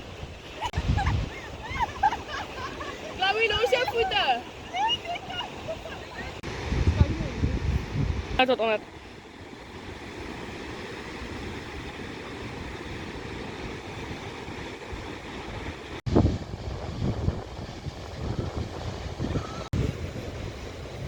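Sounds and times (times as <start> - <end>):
surf: 0.0 - 21.0
wind buffeting microphone: 0.0 - 21.0.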